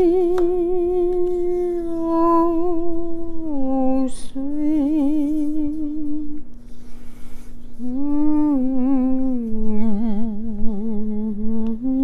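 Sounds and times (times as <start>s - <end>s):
woman humming a slow melody: 0.0s - 6.6s, 7.8s - 12.0s.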